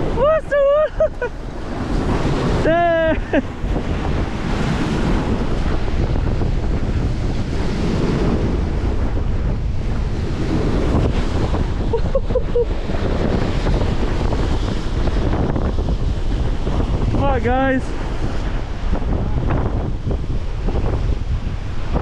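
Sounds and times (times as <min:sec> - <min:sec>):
big waves washing: 0:00.0 - 0:22.0
wind buffeting microphone: 0:00.0 - 0:22.0.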